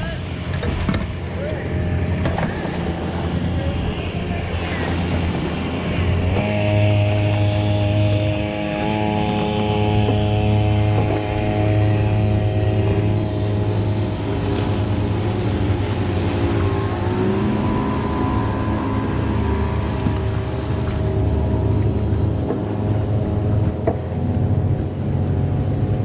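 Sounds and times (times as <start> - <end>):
outboard boat engines passing: 0.0 - 26.0.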